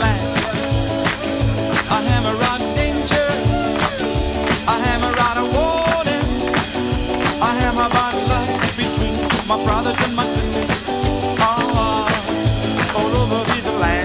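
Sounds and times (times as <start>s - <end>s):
upbeat band music: 0.0s - 14.0s.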